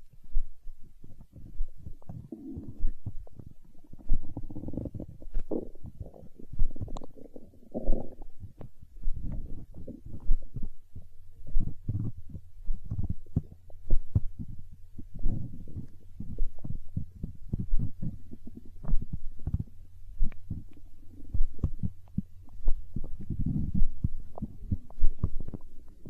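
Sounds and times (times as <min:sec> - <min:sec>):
low hum: 0:00.0 - 0:26.0
stomach gurgling: 0:00.4 - 0:26.0.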